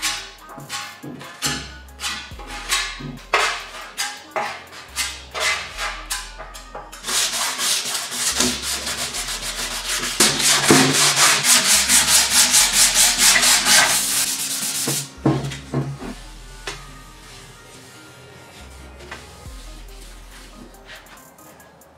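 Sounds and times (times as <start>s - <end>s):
hand sanding metal: 0.0s - 21.5s.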